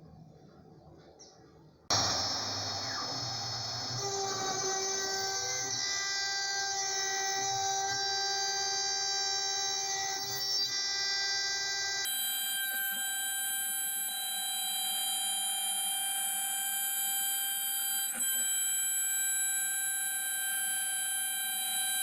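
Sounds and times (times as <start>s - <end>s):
router spindle whine: 1.9s - 22.0s.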